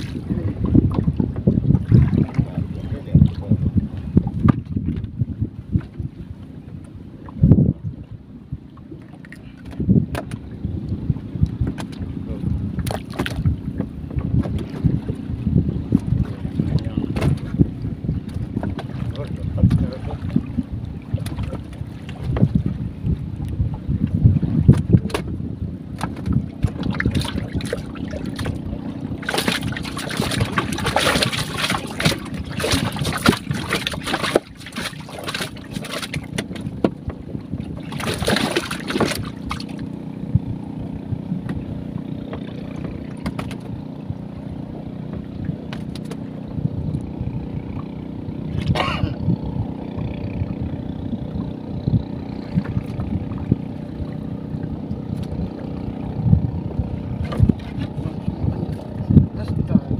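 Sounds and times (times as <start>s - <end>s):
water splashing: 0.0s - 3.6s, 11.6s - 46.4s, 47.1s - 59.9s
boat motor running: 0.0s - 59.9s.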